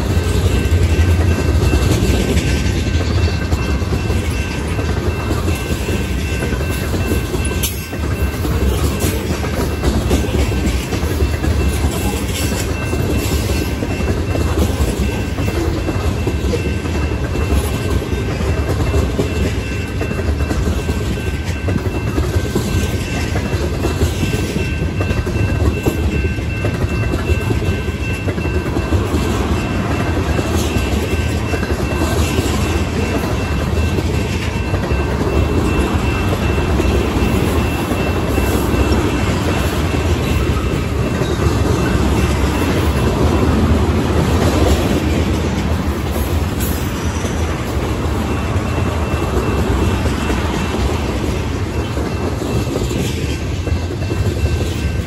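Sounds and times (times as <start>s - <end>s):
train wheels rumbling on rails: 0.0s - 55.0s
wheels clacking on rail joints: 0.0s - 55.0s.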